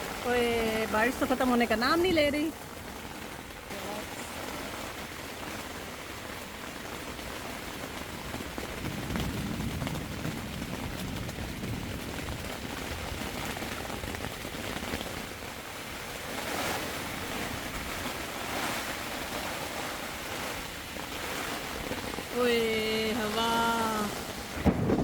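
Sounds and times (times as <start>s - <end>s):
heavy rain pouring: 0.0s - 25.0s
wind gusts: 0.0s - 25.0s.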